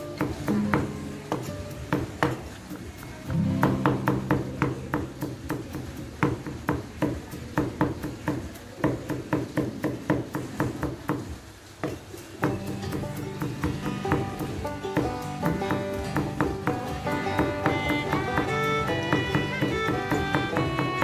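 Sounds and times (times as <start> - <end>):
knife chopping on cutting board: 3.6 - 21.0.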